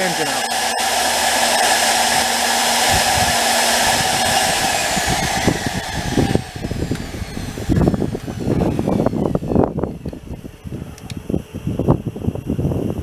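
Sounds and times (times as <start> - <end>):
electric blower whining: 0.0 - 11.7.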